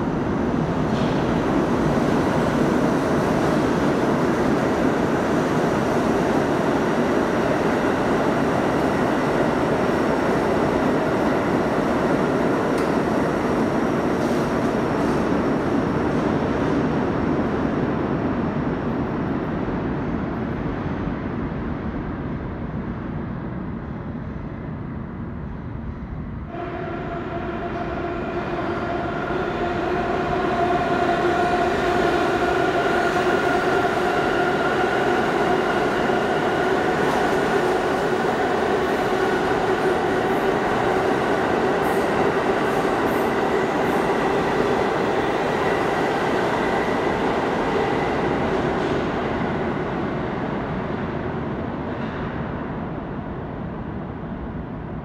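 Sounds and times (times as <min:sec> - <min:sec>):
subway train passing: 0:00.0 - 0:55.0.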